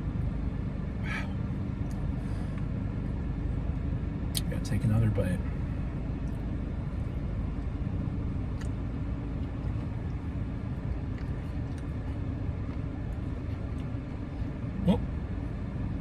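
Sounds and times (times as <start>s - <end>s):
car rumbling: 0.0s - 16.0s.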